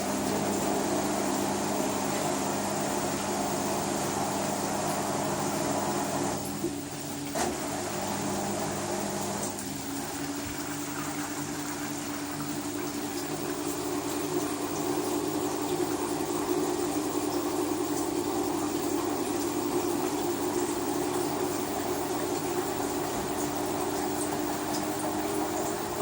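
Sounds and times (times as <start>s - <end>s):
washing machine hum: 0.0s - 26.0s.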